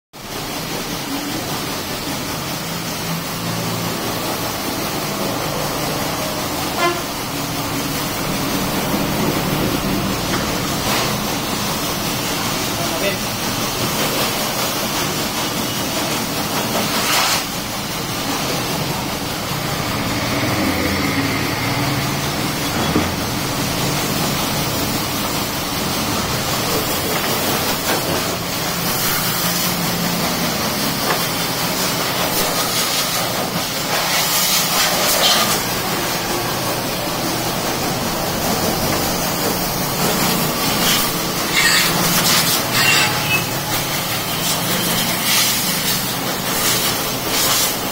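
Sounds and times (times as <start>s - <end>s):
pressure washer water jet hissing: 0.2s - 47.9s
washer motor humming: 0.2s - 47.9s.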